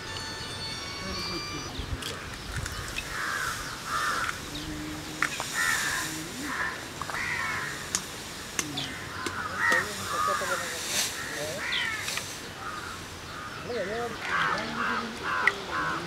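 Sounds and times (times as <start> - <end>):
crows cawing: 2.0 - 4.6, 5.2 - 16.0.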